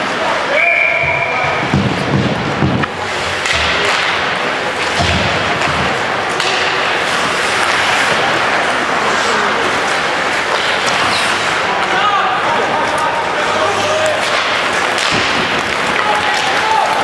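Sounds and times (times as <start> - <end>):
skates and sticks on ice: 0.0 - 17.0.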